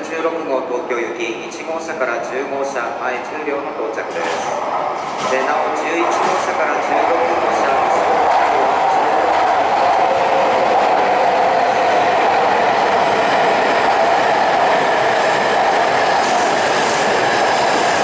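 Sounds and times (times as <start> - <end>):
train rolling noise: 0.2 - 18.0.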